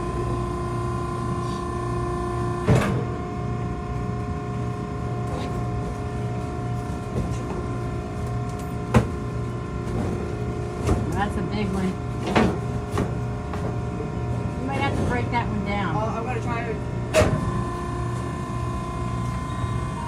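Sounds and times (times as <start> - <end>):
cardboard baler humming: 0.0 - 20.0.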